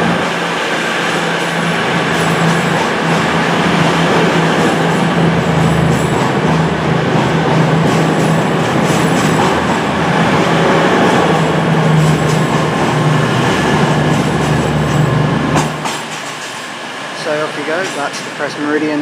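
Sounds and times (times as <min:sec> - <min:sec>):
diesel train engines droning: 0:00.0 - 0:19.0
train rumble: 0:00.0 - 0:19.0.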